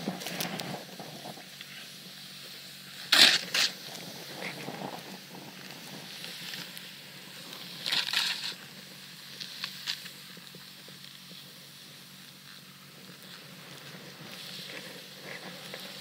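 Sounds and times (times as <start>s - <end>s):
snowboard carving through snow: 0.0s - 16.0s.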